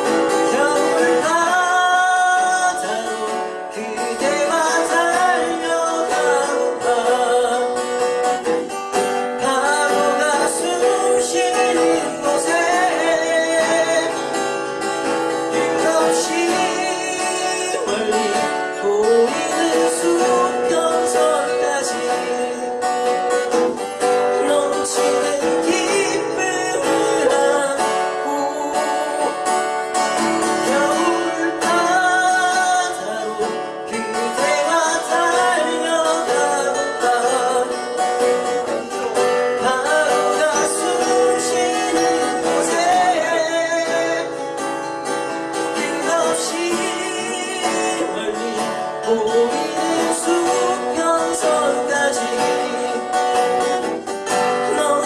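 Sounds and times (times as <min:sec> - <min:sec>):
acoustic guitar: 0:00.0 - 0:55.0
person singing ballad: 0:00.0 - 0:55.0.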